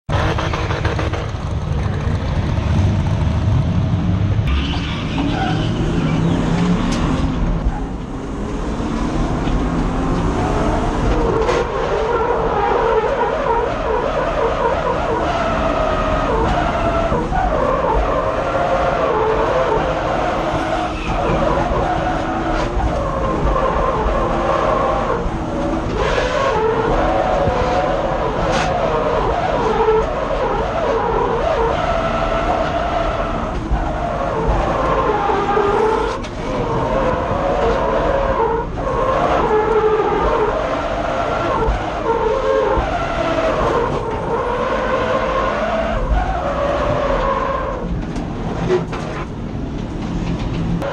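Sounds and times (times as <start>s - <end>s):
car engine revving: 0.1s - 50.9s
tyres skidding: 0.1s - 50.9s.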